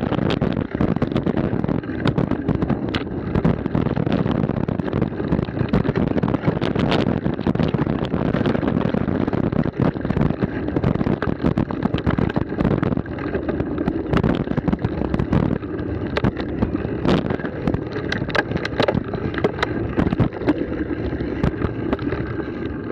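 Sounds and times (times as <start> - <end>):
bike rattling and knocking: 0.0 - 22.9
tyres rumbling over stones: 0.0 - 22.9
wind on microphone: 0.0 - 22.9.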